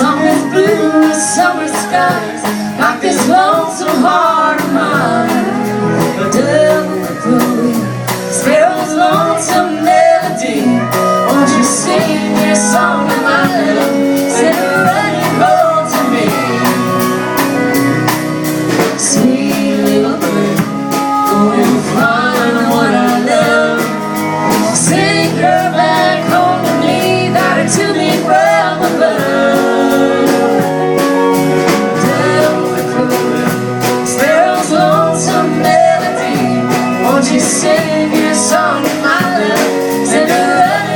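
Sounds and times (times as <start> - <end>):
person singing: 0.0 - 17.4, 18.8 - 40.9
guitar playing chords: 0.0 - 40.9
melodic lead line: 0.0 - 40.9.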